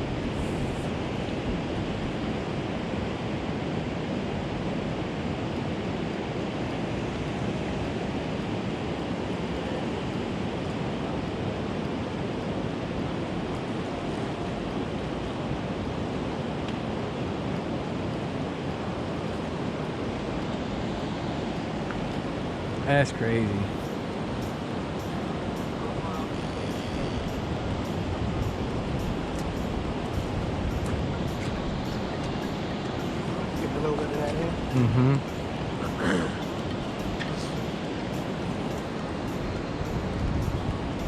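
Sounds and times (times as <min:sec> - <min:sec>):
river water rushing: 0:00.0 - 0:41.0.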